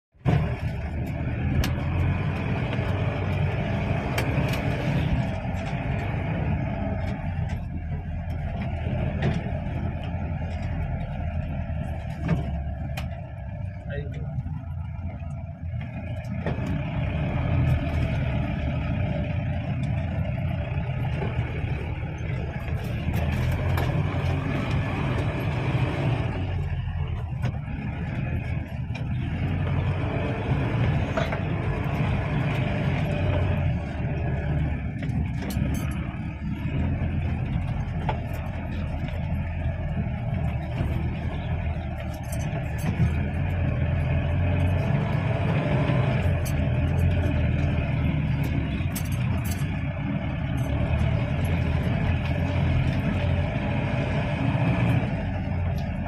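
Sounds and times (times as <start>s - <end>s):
engine and drivetrain rumble: 0.0s - 56.0s.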